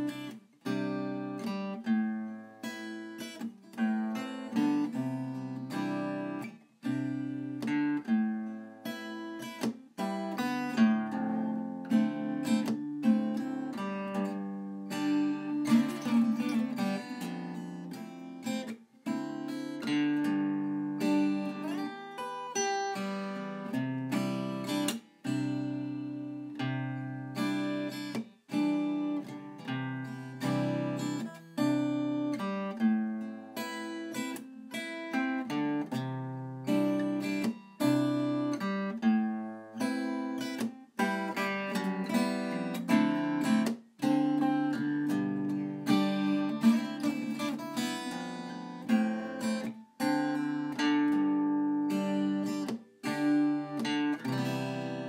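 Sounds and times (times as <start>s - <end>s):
plucked string instrumental music: 0.0s - 55.0s.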